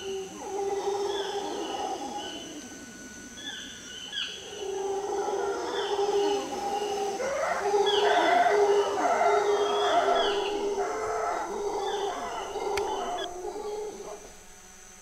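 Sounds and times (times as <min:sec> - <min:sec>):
howler monkeys howling: 0:00.0 - 0:15.0
insects droning: 0:00.0 - 0:15.0.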